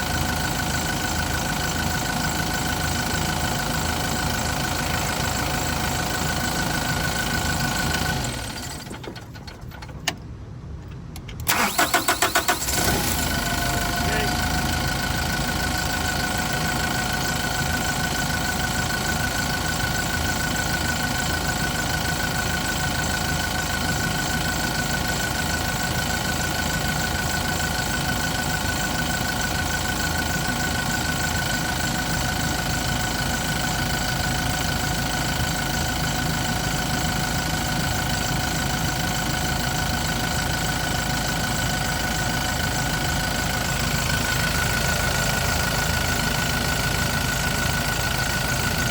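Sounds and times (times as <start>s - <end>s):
diesel forklift engine idling: 0.0s - 10.1s, 11.1s - 48.9s.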